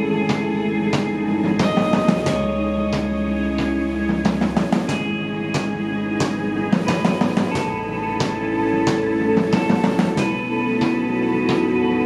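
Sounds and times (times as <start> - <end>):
drum kit beat: 0.0 - 12.0
electric bass line: 0.0 - 12.0
electric guitar notes: 0.0 - 12.0.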